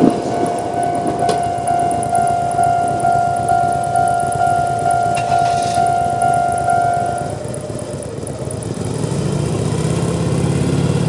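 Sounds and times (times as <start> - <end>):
level-crossing warning alarm: 0.0 - 9.0
engine: 0.0 - 11.0.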